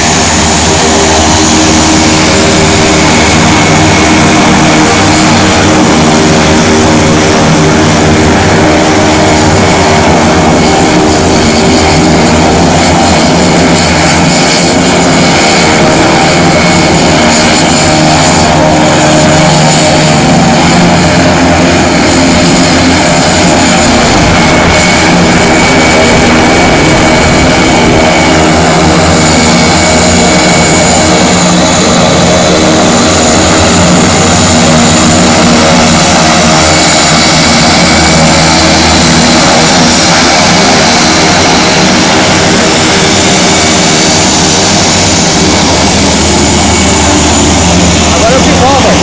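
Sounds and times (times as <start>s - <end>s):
turboprop engines taxiing: 0.0s - 49.0s.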